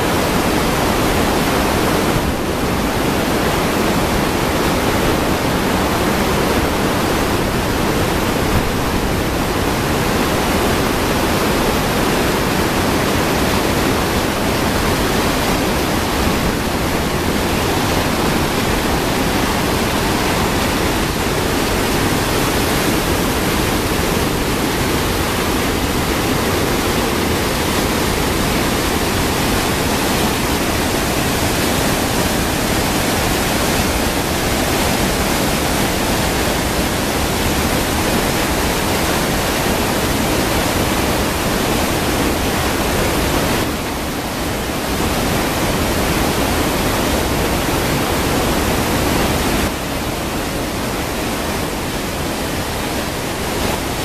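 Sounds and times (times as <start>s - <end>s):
waterfall rushing over boulders: 0.0s - 54.0s.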